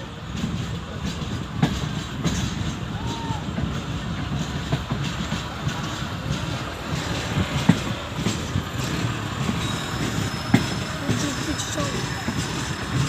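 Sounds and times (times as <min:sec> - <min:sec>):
rail clatter and clicks: 0:00.0 - 0:13.0
train rolling rumble: 0:00.0 - 0:13.0.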